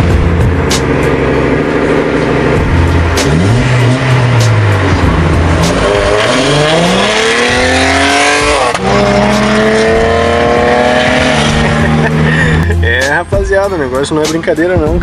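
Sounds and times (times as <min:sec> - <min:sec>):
car engine accelerating: 0:00.0 - 0:14.5.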